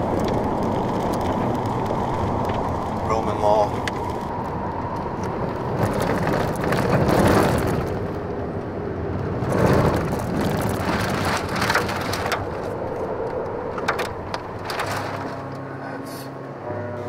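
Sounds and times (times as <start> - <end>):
heavy rain on a car: 0.0 - 15.6
car driving on gravel: 0.0 - 16.1
wind: 0.0 - 17.0.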